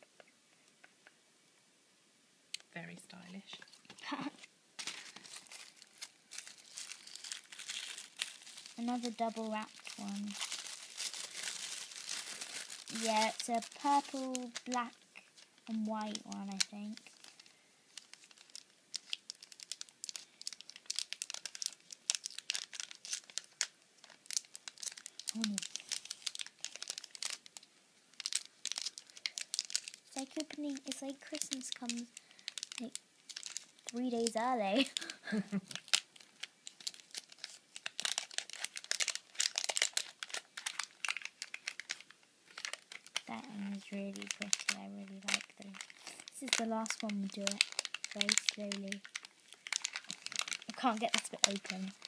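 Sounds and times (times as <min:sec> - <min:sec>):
wrapper crinkling and tearing: 0:02.5 - 0:52.0.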